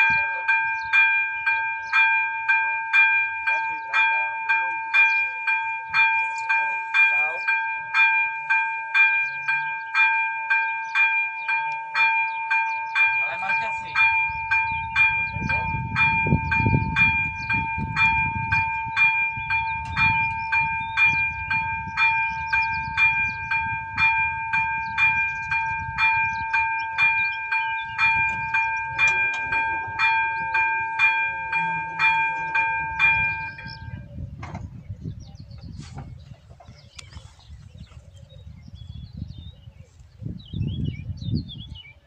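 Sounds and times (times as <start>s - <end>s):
level crossing warning bell ringing: 0.0s - 34.2s.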